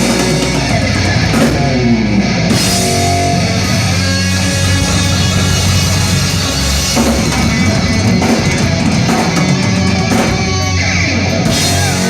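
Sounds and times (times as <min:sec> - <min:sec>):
hard rock band playing: 0:00.0 - 0:12.0.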